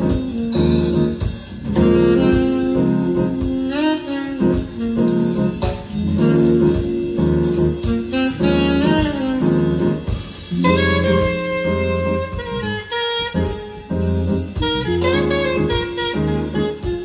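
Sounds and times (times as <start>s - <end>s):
jazz music over loudspeakers: 0.0s - 17.0s.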